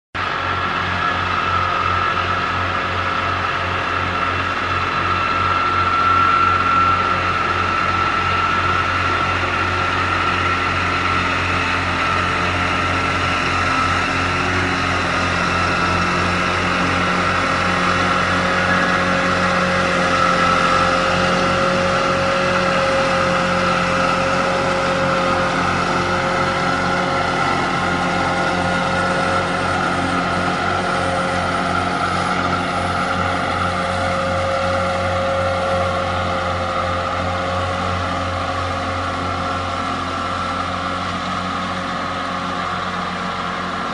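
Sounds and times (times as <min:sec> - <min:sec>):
mower high whine: 0:00.2 - 0:43.9
tractor diesel engine: 0:00.2 - 0:43.9.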